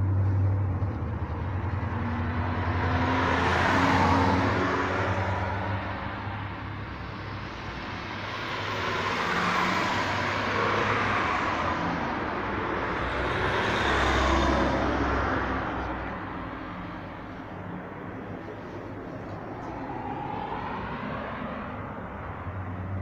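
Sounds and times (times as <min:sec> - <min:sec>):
vehicles passing: 0:00.0 - 0:23.0.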